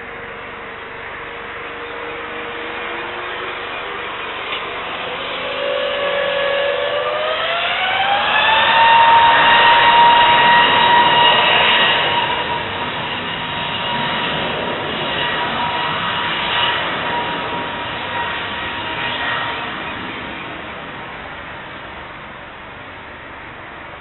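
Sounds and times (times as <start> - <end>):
jet engines spooling up: 0.0 - 23.4
rising engine whine: 0.0 - 24.0.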